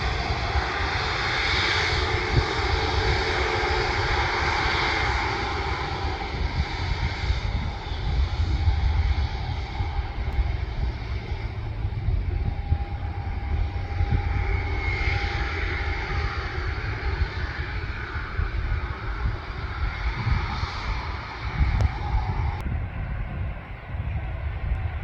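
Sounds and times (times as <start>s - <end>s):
airliner engines rumbling: 0.0s - 25.0s
thin engine whine: 0.0s - 25.0s.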